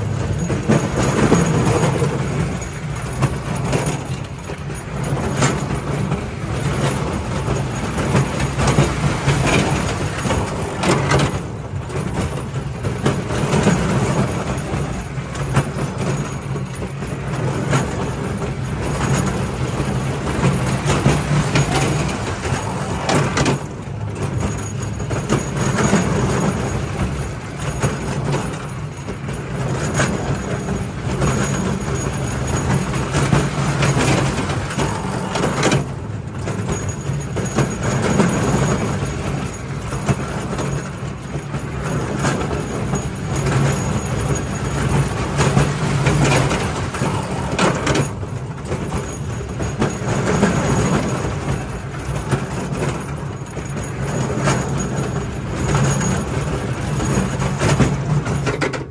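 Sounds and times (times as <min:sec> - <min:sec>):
roller coaster rumbling on track: 0:00.0 - 0:58.9.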